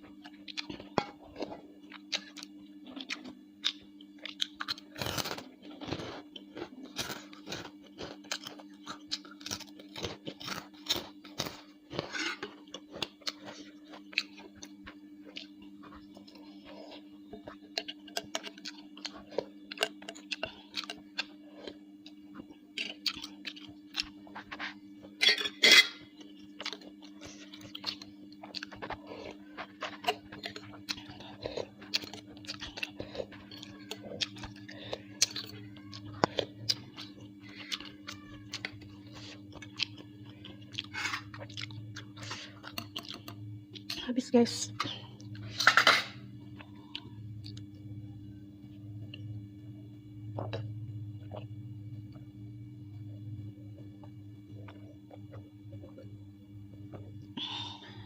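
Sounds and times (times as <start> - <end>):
steady low hum: 0.0 - 58.0
person chewing food: 0.1 - 44.0, 44.8 - 49.4, 50.3 - 58.0.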